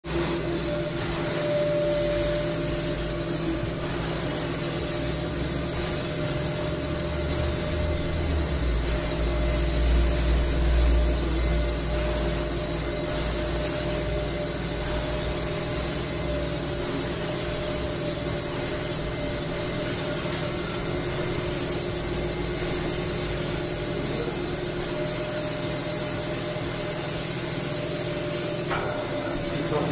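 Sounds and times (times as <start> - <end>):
carpet extraction machine running: 0.0 - 29.9.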